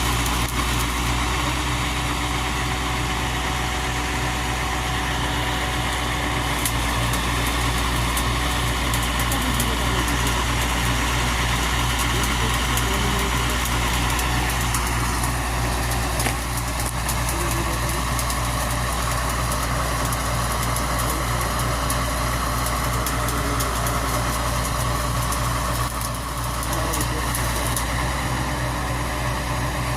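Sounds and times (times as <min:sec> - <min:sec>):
motor running steadily: 0:00.0 - 0:29.9.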